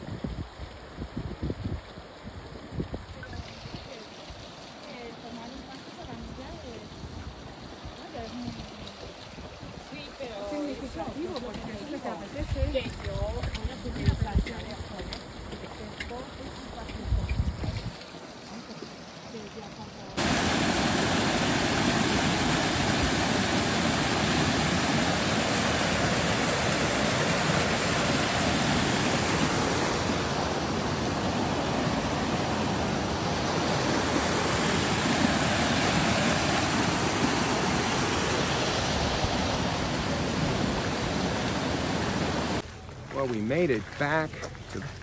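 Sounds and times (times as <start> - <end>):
stream rushing over rocks: 0.0 - 42.6.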